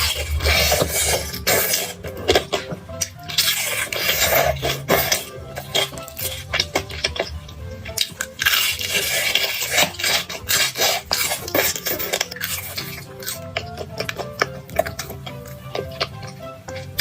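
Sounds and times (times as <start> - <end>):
quiet background music: 0.0 - 17.0
utensils clicking and scraping dishes: 0.0 - 17.0.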